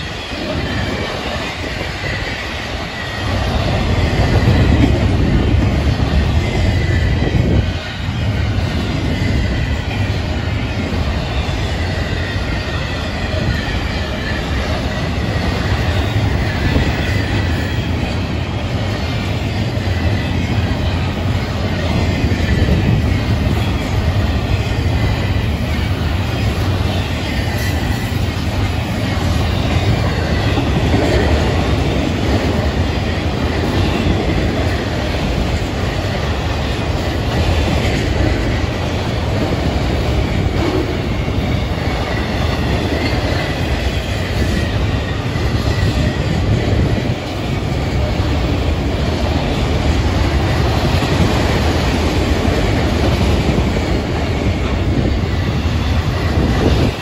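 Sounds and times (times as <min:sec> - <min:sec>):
faint high wheel squeal: 0:00.0 - 0:57.0.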